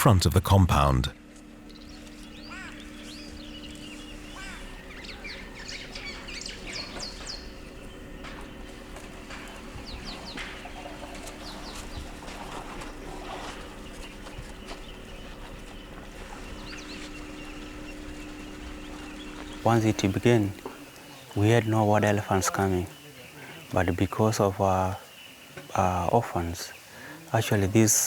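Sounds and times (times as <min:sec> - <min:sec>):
birds chirping: 0:00.0 - 0:28.0
steady low hum: 0:00.0 - 0:28.0.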